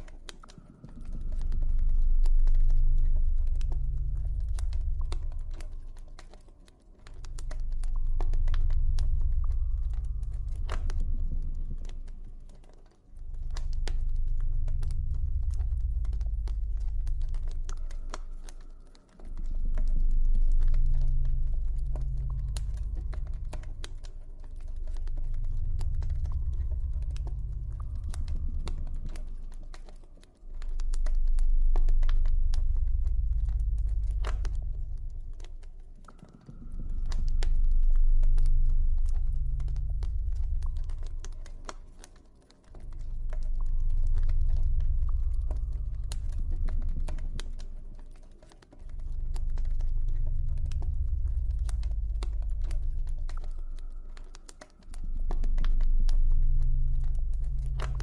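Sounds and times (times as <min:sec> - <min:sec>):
low ambient drone tones: 0:00.0 - 0:58.0.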